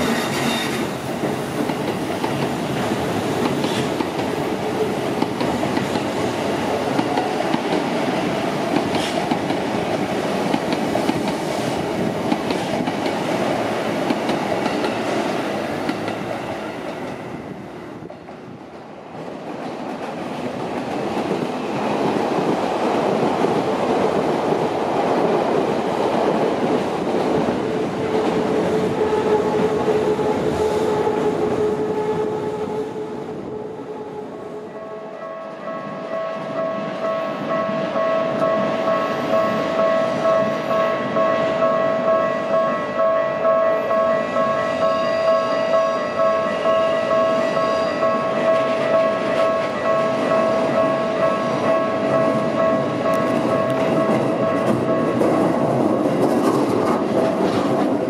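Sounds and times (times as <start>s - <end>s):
trains rumbling over bridge: 0.0s - 58.0s.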